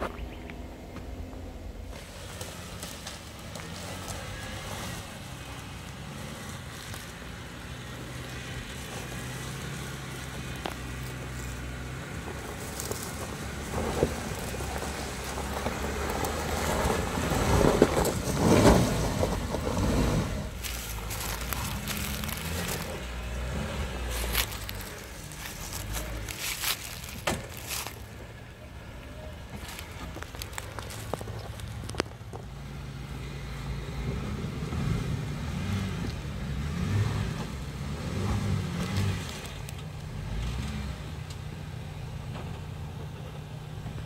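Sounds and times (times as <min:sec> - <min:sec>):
car engine at low revs: 0:00.0 - 0:44.0.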